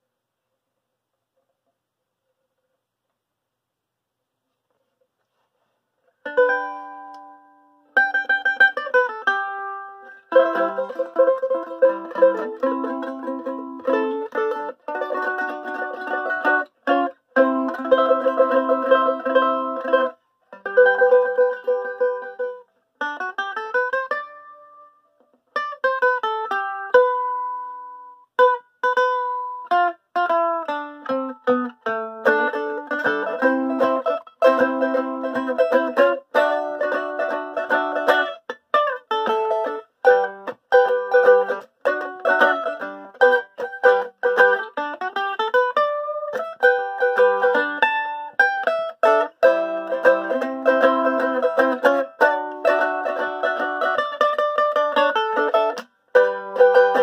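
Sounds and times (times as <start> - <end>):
mandolin picked tune: 5.3 - 57.0.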